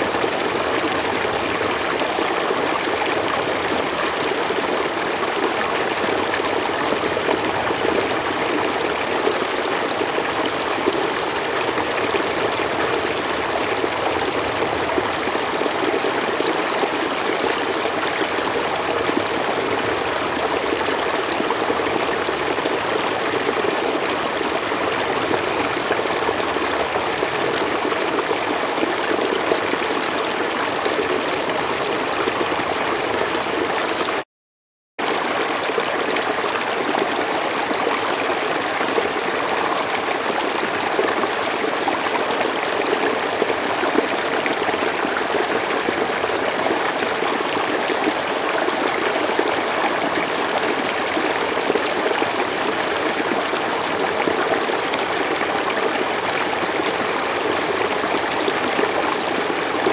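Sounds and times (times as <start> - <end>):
river water flowing: 0.0 - 34.2, 35.0 - 59.9.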